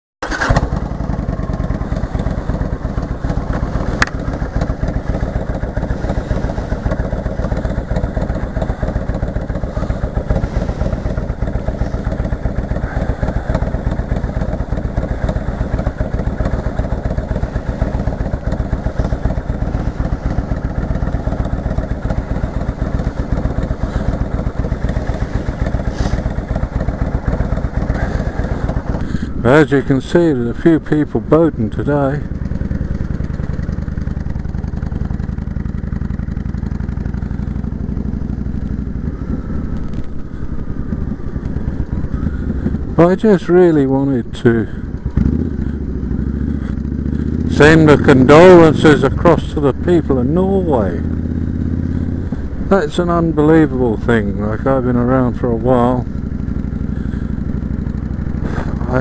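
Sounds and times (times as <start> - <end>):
motorcycle engine running: 0.2 - 59.0.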